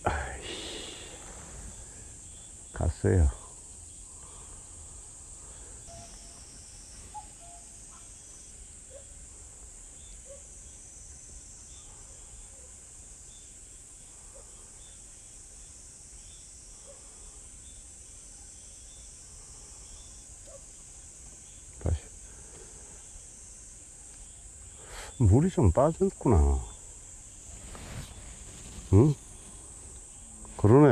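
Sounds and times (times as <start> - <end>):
insects humming: 0.0 - 30.9.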